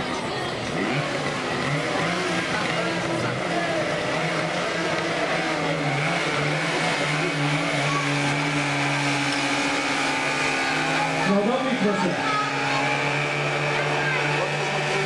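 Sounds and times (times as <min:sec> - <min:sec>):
small engine running at high speed: 0:00.0 - 0:15.0
wash of noise: 0:00.0 - 0:15.0.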